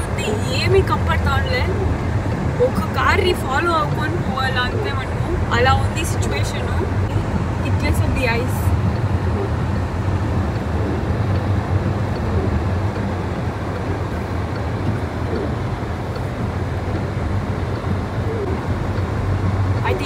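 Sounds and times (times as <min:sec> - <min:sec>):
car engine and drivetrain hum: 0:00.0 - 0:20.0
tyre noise on snowy road: 0:00.0 - 0:20.0.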